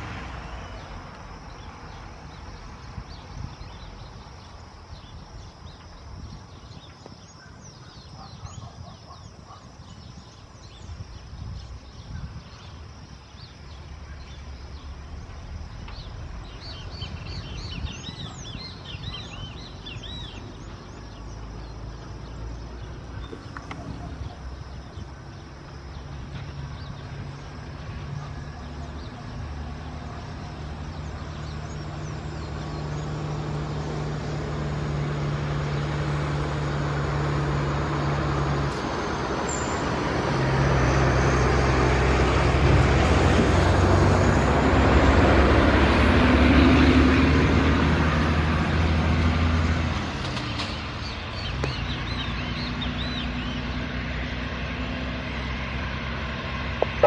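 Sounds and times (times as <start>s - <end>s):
birds chirping: 0.0s - 42.4s, 49.9s - 57.0s.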